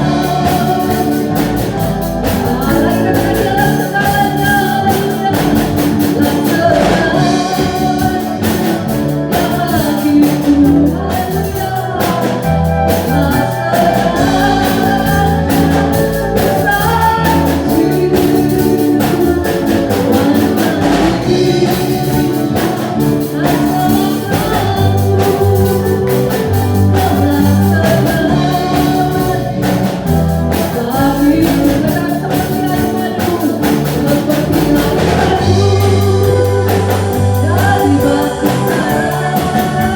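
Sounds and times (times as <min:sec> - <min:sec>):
band with bass and drums: 0:00.0 - 0:39.9
person singing worship song: 0:00.0 - 0:39.9.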